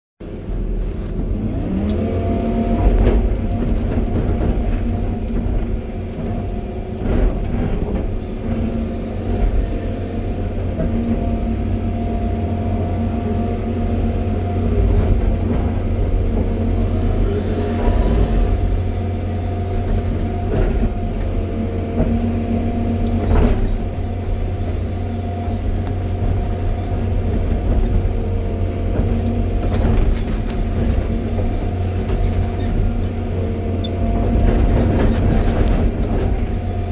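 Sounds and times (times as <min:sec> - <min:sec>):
excavator diesel engine running: 0:00.2 - 0:36.9.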